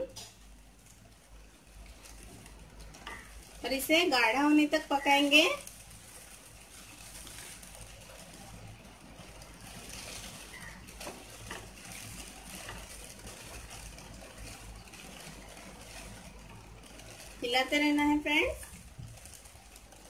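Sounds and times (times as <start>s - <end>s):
thick sauce simmering: 0.0s - 20.0s.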